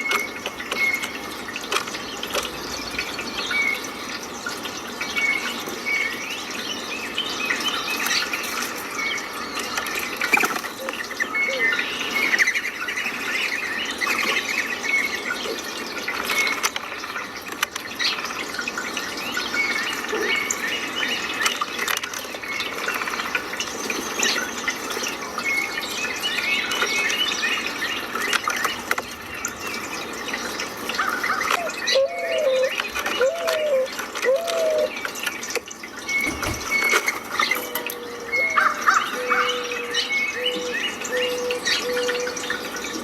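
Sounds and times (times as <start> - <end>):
running water rushing: 0.0 - 43.0
small birds chirping and twittering: 0.0 - 43.0.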